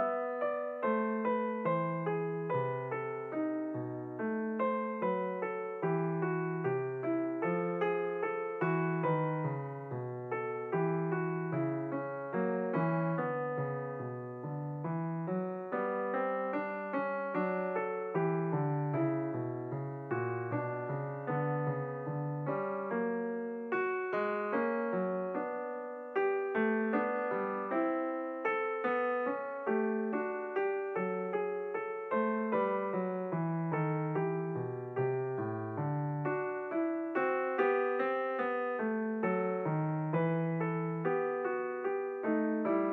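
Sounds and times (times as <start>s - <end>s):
piano music: 0.0s - 42.9s.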